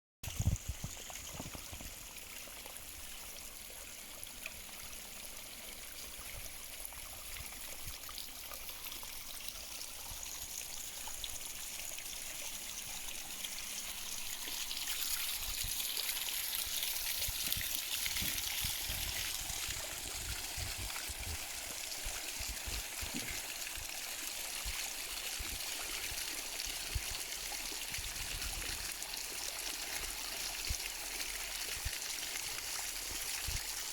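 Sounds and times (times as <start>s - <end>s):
stream of water running: 0.2s - 33.9s.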